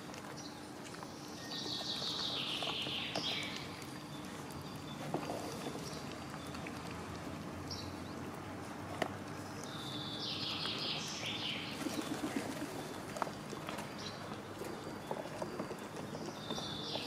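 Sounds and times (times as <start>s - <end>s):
cats chewing wet food: 0.0s - 10.8s, 12.4s - 17.0s.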